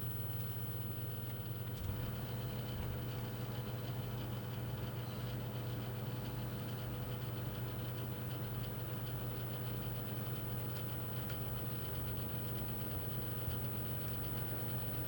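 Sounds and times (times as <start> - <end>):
hot air station fan hum: 0.0 - 15.0.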